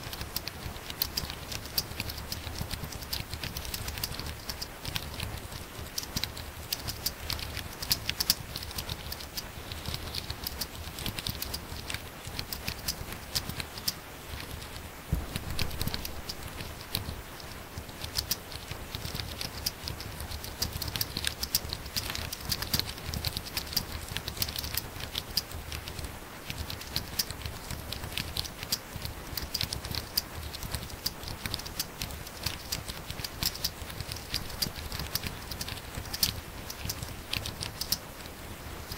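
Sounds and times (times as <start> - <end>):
typing on laptop keyboard: 0.0 - 38.9.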